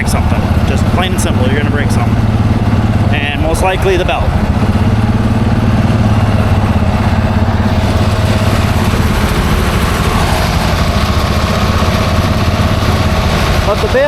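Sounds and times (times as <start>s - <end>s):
round baler forming a bale: 0.0s - 14.0s
tractor diesel engine running: 0.0s - 14.0s.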